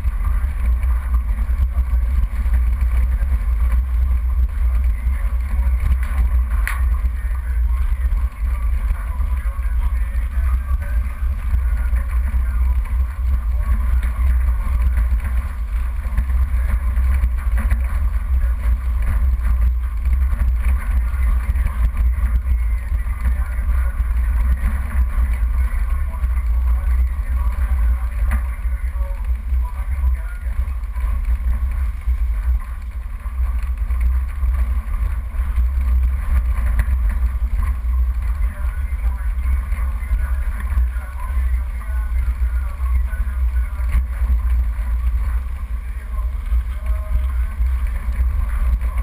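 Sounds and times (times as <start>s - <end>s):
off-road vehicle engine rumble: 0.0s - 49.0s.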